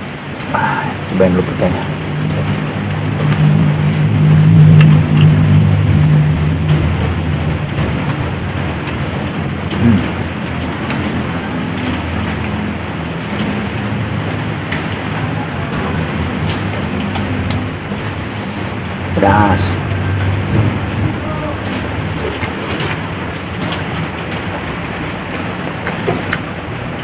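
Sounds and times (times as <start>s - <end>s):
steady rushing background noise: 0.0s - 27.0s
low hum: 0.5s - 23.7s.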